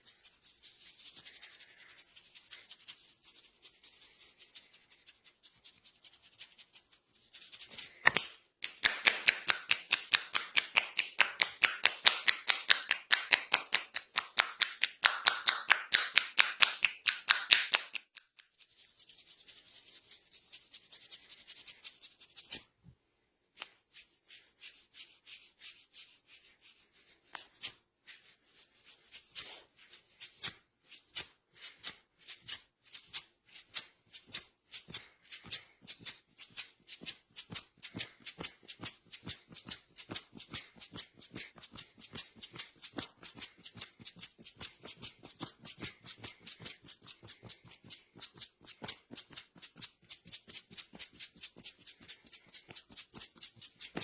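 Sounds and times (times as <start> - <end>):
hands rubbing hair and scalp: 0.0 - 22.7, 23.5 - 54.0.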